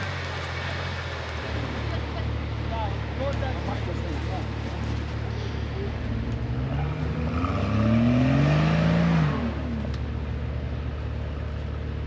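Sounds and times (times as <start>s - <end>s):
engine revving and idling: 0.0s - 10.3s.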